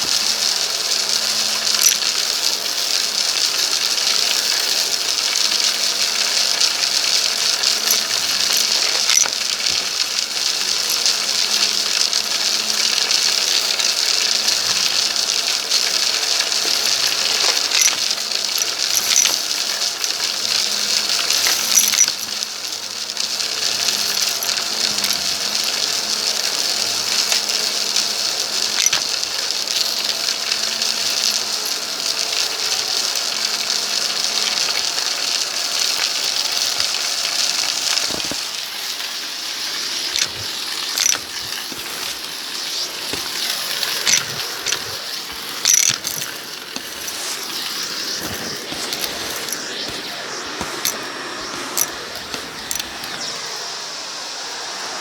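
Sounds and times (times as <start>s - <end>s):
grit crackling up hose: 0.0s - 53.7s
vacuum cleaner motor hissing: 0.0s - 55.0s.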